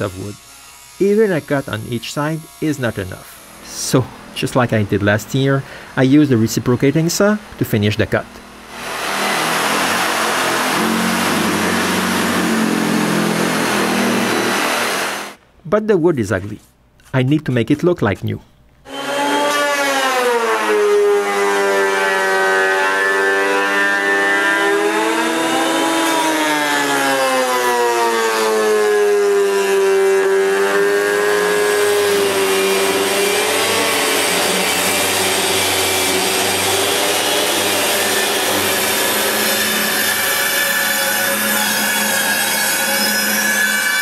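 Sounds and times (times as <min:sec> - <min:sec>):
jointer planing wood: 0:00.0 - 0:03.8, 0:08.6 - 0:15.4, 0:18.9 - 0:44.0.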